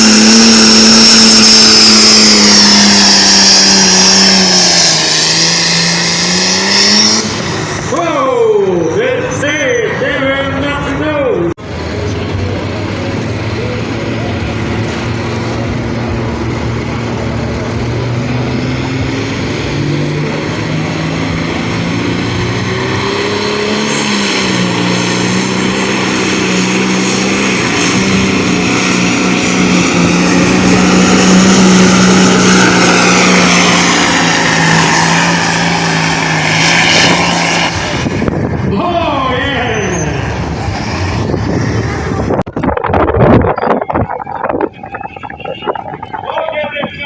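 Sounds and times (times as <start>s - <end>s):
tractor engine under heavy load: 0.0s - 10.9s, 11.6s - 47.0s.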